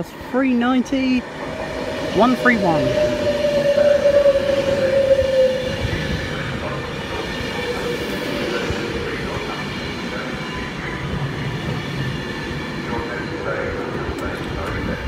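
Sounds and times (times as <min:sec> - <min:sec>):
train rumbling: 0:00.0 - 0:15.0
electric train whine: 0:00.1 - 0:15.0.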